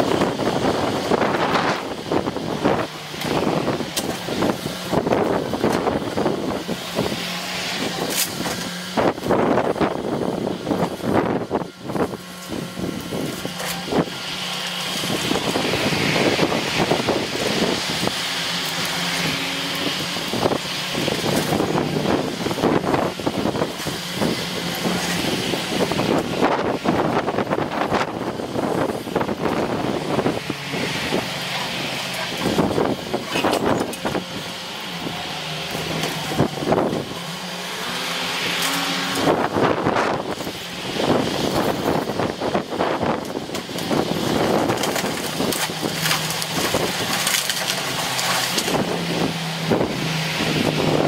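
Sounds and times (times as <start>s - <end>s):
excavator engine under load: 0.0s - 51.0s
demolition debris crunching: 0.1s - 51.0s.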